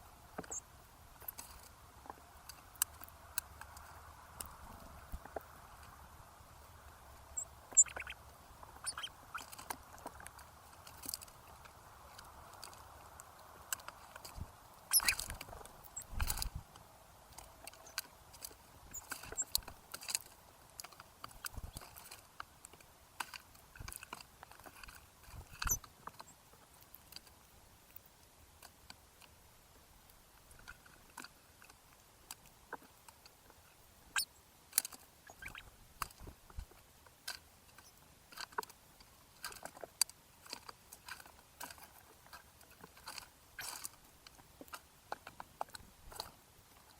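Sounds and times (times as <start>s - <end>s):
birds pecking and cracking seed: 0.0s - 46.9s.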